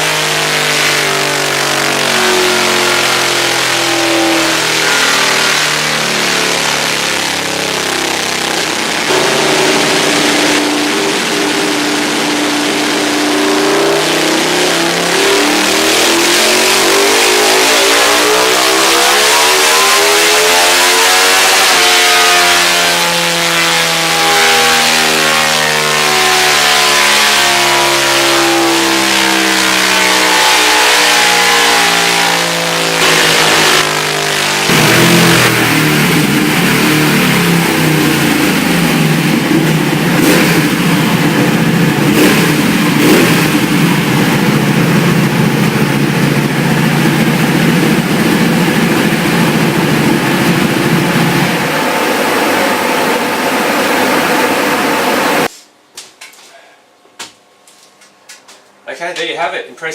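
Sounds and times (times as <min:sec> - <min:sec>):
motorcycle engine revving: 0:00.0 - 0:55.5.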